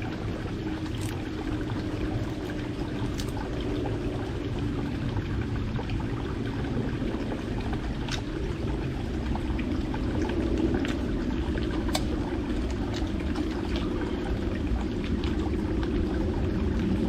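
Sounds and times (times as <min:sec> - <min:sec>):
water bubbling in a pot: 0:00.0 - 0:17.0.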